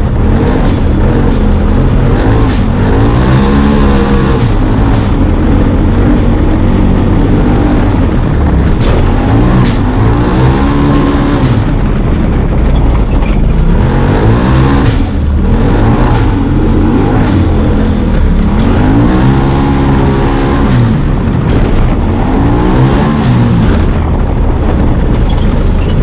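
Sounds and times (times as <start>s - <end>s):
engine revving at high revs: 0.0s - 26.0s.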